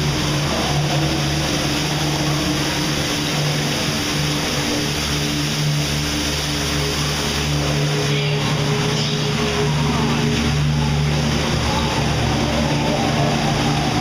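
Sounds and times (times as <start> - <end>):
constant low hum: 0.0 - 14.0
water rushing wash: 0.0 - 14.0.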